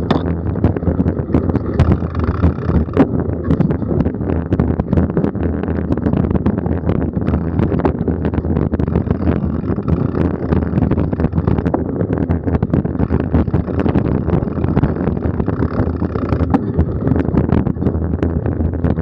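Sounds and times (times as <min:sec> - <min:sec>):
bike clicks and rattles: 0:00.0 - 0:19.0
bike tyres rumbling on dirt: 0:00.0 - 0:19.0
wind on microphone: 0:00.0 - 0:19.0.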